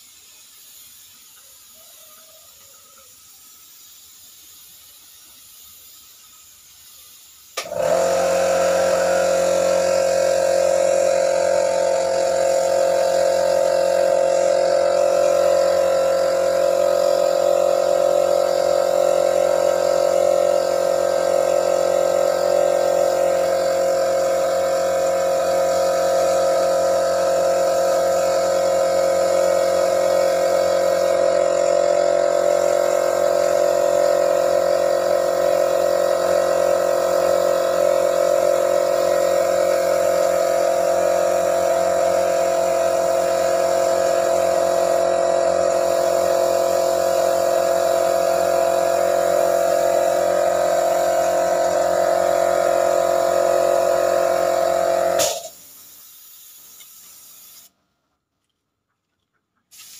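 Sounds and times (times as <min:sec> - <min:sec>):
paint spray gun hissing: 0:00.0 - 0:57.8, 0:59.6 - 0:59.9.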